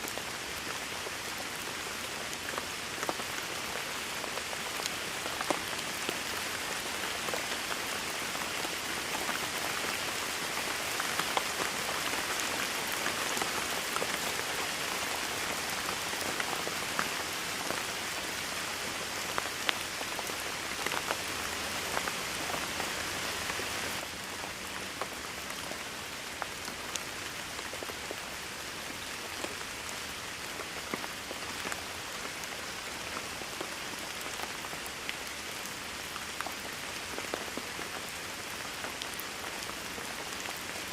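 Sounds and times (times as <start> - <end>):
rain falling steadily: 0.0 - 40.9.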